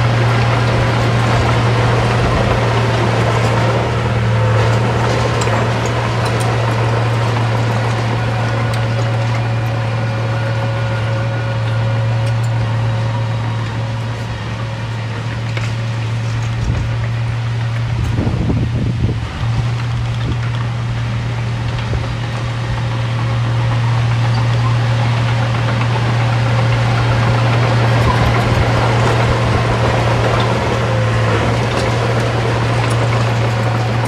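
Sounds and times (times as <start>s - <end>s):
heavy machinery diesel engine: 0.0s - 34.0s.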